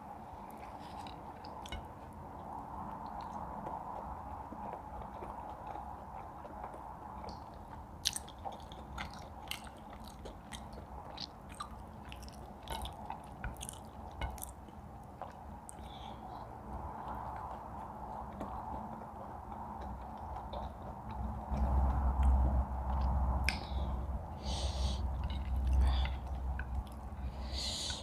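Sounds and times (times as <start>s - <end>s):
chewing and biting: 0.0s - 28.0s
steady background hum: 0.0s - 28.0s.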